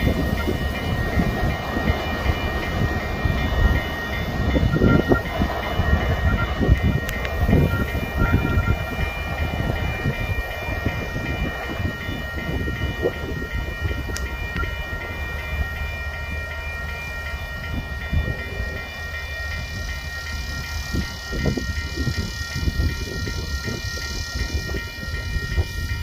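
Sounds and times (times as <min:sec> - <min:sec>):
thin high tones: 0:00.0 - 0:26.0
train wheels rumbling on rail: 0:00.0 - 0:26.0.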